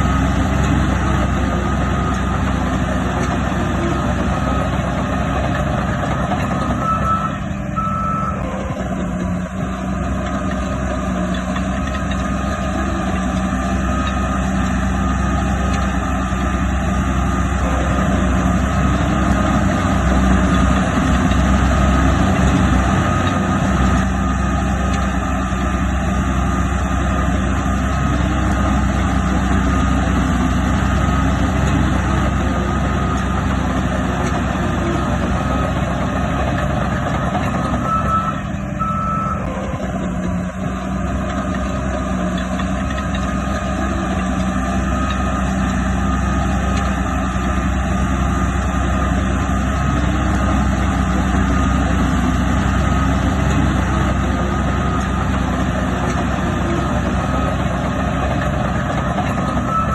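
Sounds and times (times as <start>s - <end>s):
reversing alarm beeping: 0.0s - 9.6s, 11.8s - 25.2s, 27.8s - 40.6s, 43.3s - 59.9s
heavy machinery diesel engine: 0.0s - 59.9s.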